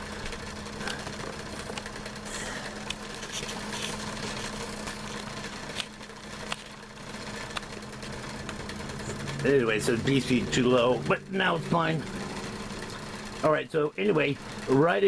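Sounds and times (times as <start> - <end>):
power supply fan hum: 0.0 - 15.0.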